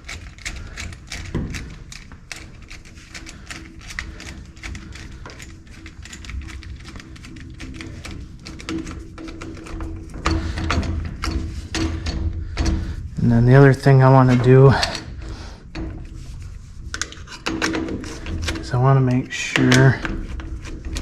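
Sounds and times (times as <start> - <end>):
hand tools clicking on metal clamps: 0.0 - 16.2, 17.0 - 21.0.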